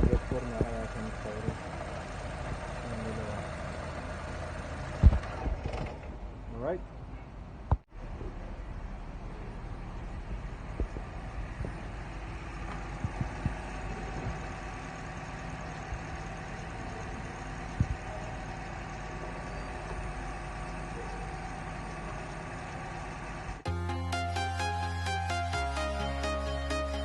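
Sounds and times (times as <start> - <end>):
engine knocks: 0.0 - 6.5, 7.6 - 23.7
engine idling with misfire: 0.0 - 6.8, 7.9 - 23.7.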